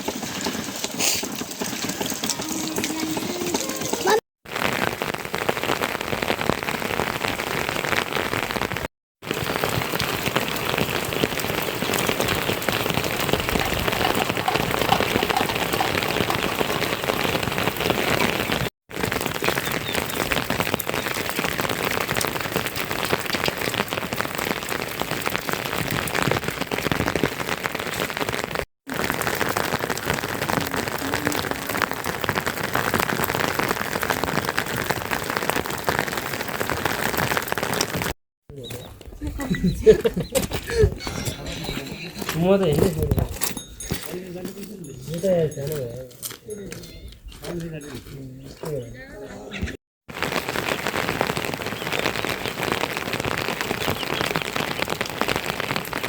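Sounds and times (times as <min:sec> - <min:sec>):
steady rain falling: 0:00.0 - 0:41.0, 0:50.1 - 0:56.0.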